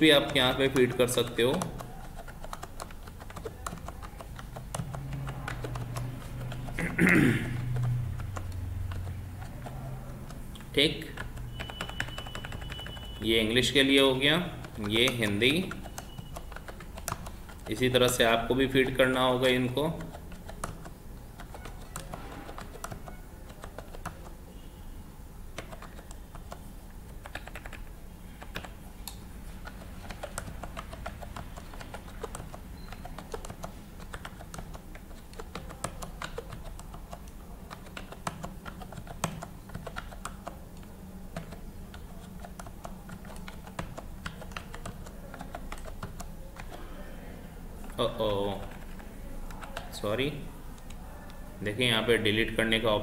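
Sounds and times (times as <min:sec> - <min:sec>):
keyboard keys clicking: 0:00.0 - 0:24.4, 0:25.5 - 0:47.0, 0:47.8 - 0:51.4.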